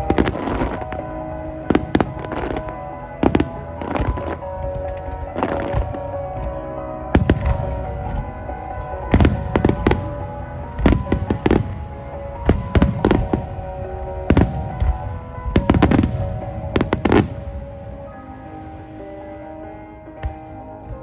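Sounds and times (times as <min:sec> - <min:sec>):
fireworks bursting with bangs: 0:00.0 - 0:21.0
music with sustained notes: 0:00.0 - 0:21.0.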